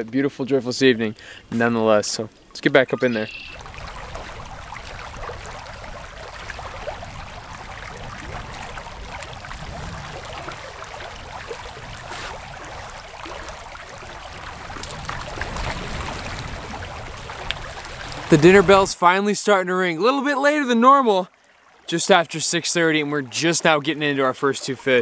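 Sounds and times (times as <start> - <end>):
creek water running: 0.0 - 25.0.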